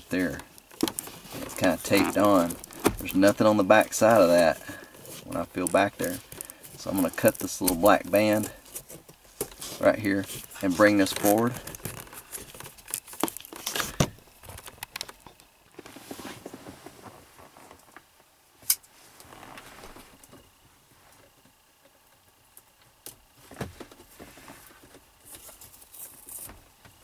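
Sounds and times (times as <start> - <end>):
tape and foam rustling: 0.0 - 18.1, 23.3 - 27.0.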